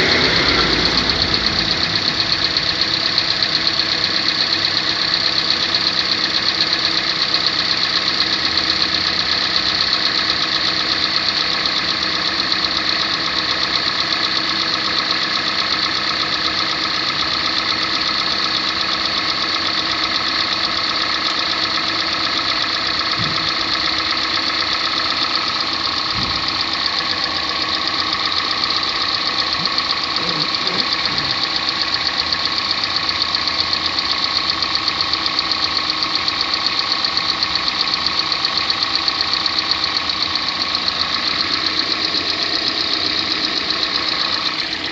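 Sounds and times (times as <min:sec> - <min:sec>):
car engine knocking-ticking: 0:00.0 - 0:44.9.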